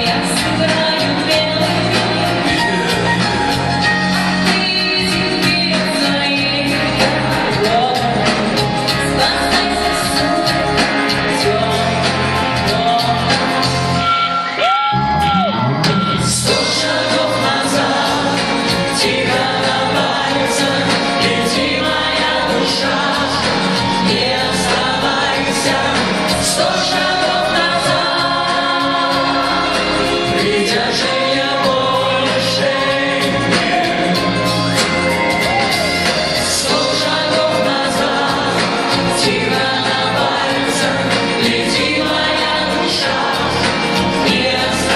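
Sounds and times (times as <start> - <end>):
live band playing pop ballad: 0.0 - 44.9.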